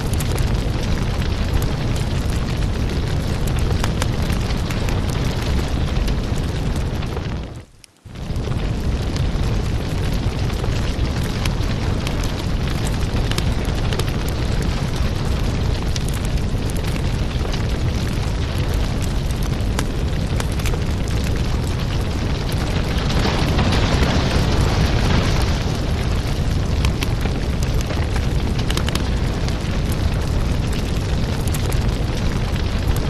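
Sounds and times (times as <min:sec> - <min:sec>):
firewood burning: 0:00.0 - 0:33.0
wood crackling and popping: 0:00.0 - 0:33.0.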